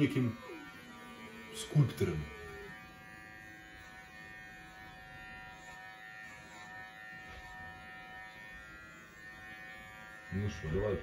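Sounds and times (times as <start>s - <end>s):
electric pet clipper buzzing: 0.0s - 11.0s.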